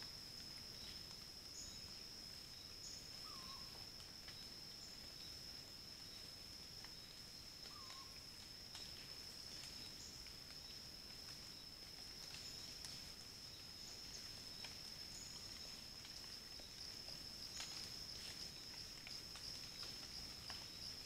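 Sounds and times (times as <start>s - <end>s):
faint ticks and rustles: 0.0s - 21.0s.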